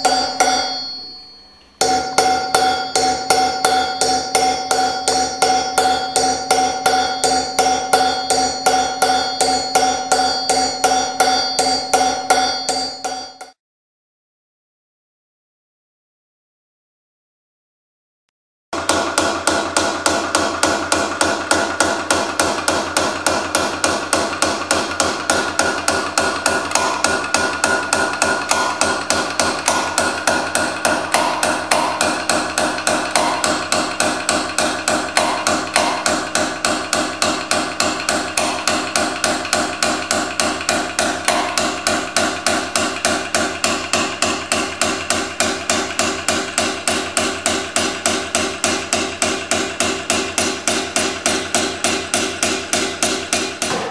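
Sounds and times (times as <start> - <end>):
hammer tapping metal punch: 0.0 - 13.6, 18.8 - 53.9.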